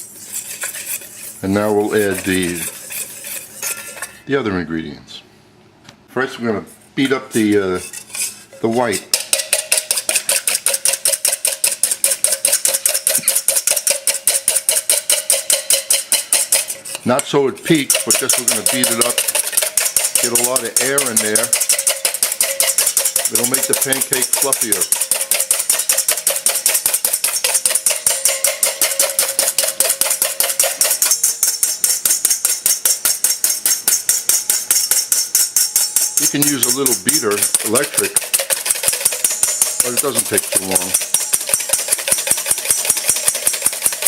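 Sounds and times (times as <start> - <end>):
whisk clicking against bowl: 0.0 - 4.1, 8.9 - 44.0.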